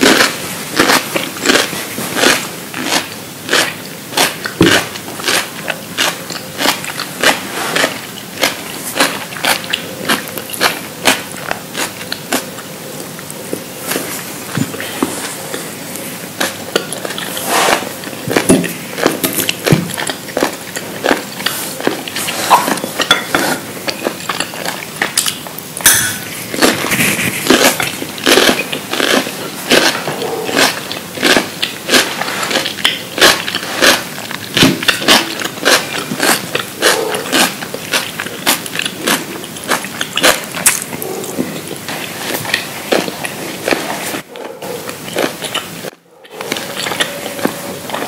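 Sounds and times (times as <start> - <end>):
crunching bites and chewing: 0.0 - 48.0.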